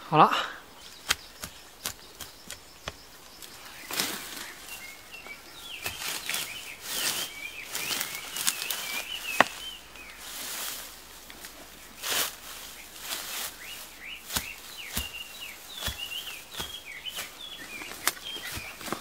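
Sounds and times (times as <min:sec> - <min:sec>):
bird singing: 0:00.0 - 0:10.8, 0:11.6 - 0:19.0.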